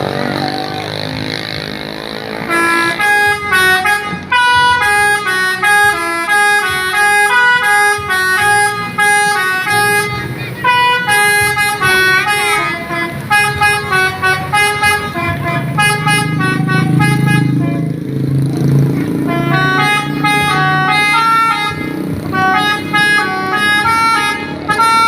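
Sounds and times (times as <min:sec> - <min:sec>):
bus air horns playing jingle: 0:02.3 - 0:25.0.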